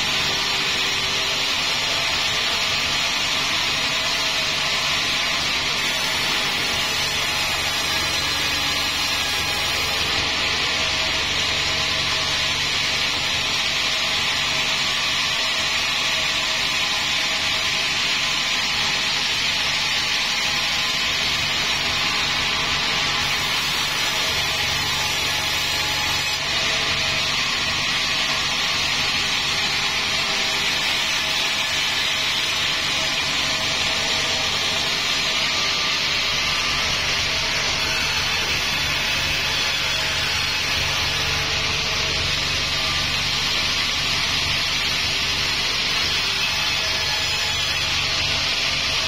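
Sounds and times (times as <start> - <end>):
band saw cutting timber: 0.0 - 49.0.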